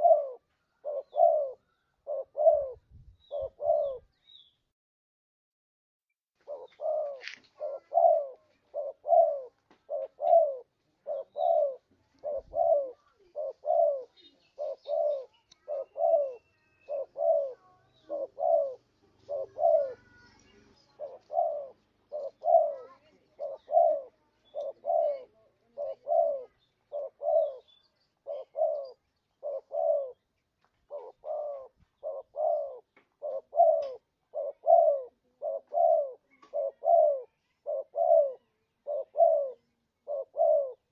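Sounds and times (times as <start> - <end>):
dove cooing: 0.0 - 4.1, 6.4 - 30.3, 30.9 - 40.9.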